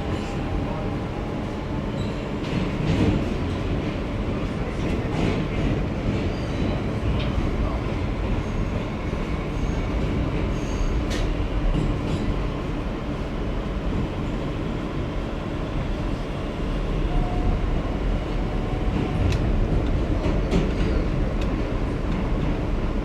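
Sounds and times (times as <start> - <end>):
subway car rumbling on track: 0.0 - 23.0.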